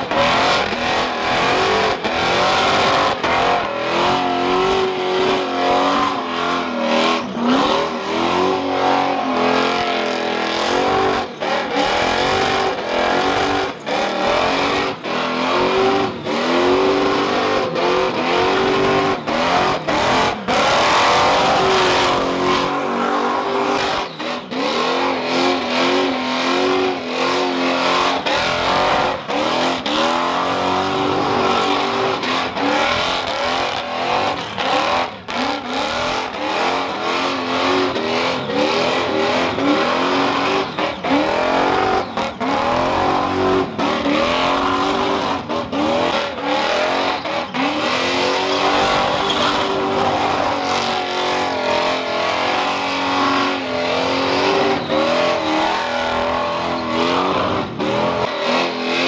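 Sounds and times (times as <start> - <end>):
engine revving hard: 0.0 - 59.0.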